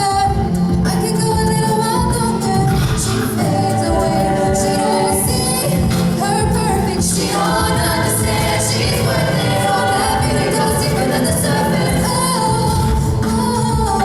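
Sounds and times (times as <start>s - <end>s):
steady musical accompaniment: 0.0s - 14.0s
several voices singing together: 1.0s - 14.0s.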